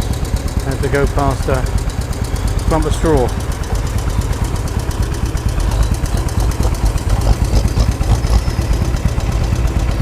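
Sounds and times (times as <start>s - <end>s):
engine ticking over with knock: 0.0s - 10.0s
noisy tractor running: 0.0s - 10.0s.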